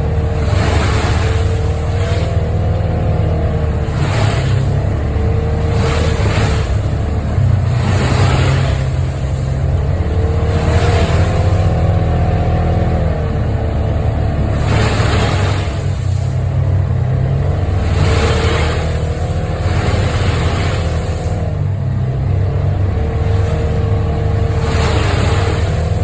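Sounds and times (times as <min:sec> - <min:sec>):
rushing swell: 0:00.0 - 0:13.1, 0:14.1 - 0:21.6, 0:23.1 - 0:26.0
vehicle engine drone: 0:00.0 - 0:26.0.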